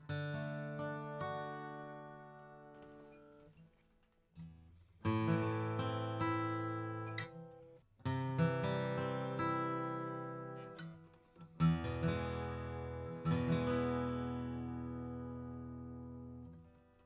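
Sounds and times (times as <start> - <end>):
acoustic guitar strumming: 0.0 - 3.5, 4.4 - 17.0.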